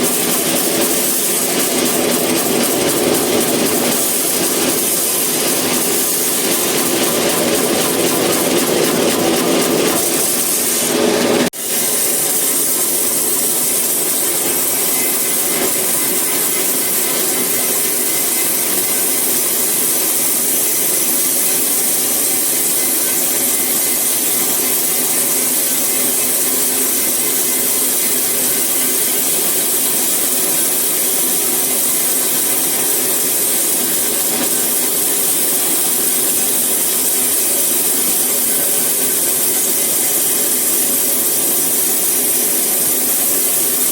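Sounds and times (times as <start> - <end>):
saw cutting through wood: 0.0 - 43.9.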